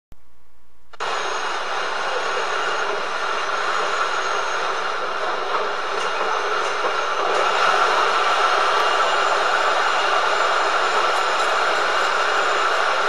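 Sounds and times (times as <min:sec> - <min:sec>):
train rushing along rails: 0:01.0 - 0:13.0.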